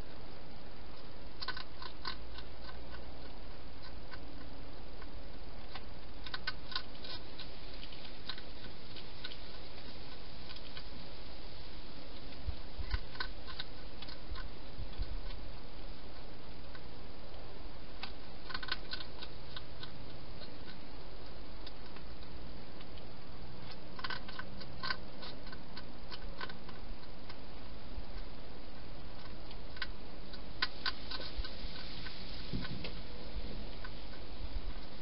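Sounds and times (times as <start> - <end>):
hedgehog eating crunches: 0.0 - 35.0.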